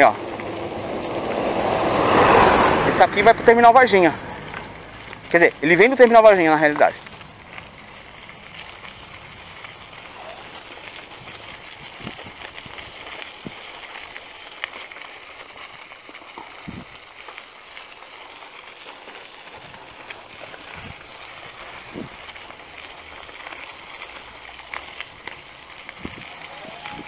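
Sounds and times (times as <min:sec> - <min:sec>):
bicycle tyres rolling on gravel: 0:00.0 - 0:27.0.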